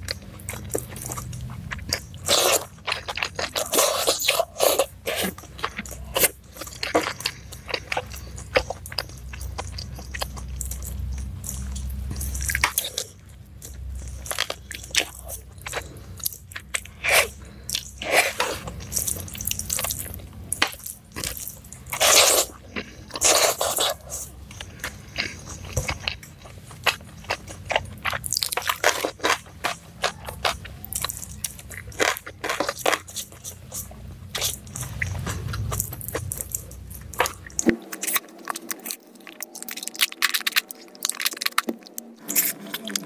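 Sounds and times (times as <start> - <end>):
close-miked chewing crunches: 0.0 - 43.0.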